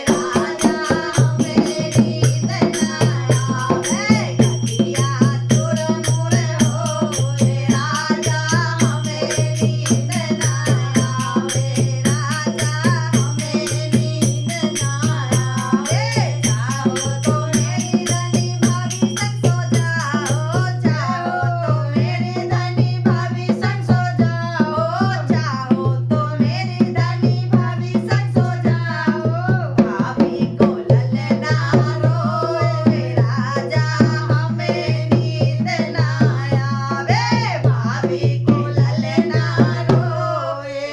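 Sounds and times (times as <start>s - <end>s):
hand drum beat: 0.0s - 40.3s
rattling percussion: 0.0s - 40.4s
woman singing: 0.0s - 40.9s.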